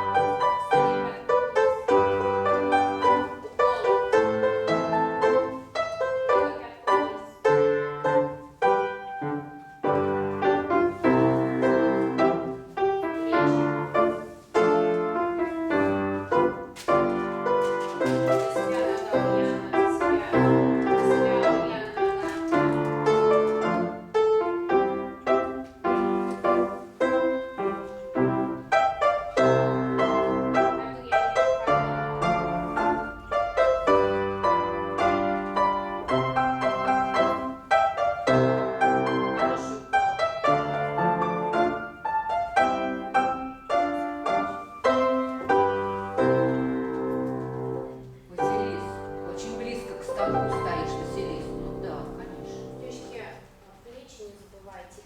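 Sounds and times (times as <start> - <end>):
piano playing chords and melody: 0.0 - 53.6.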